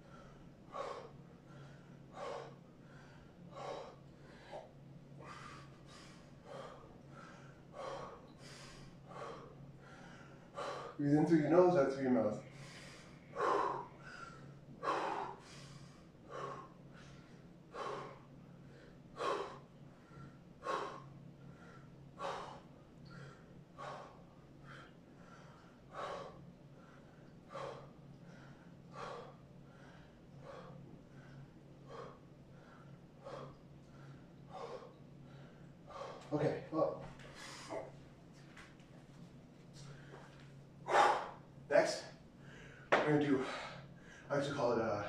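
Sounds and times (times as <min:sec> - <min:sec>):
man breathing hard: 0:00.0 - 0:38.8, 0:39.7 - 0:45.0
faint low hum: 0:00.0 - 0:45.0.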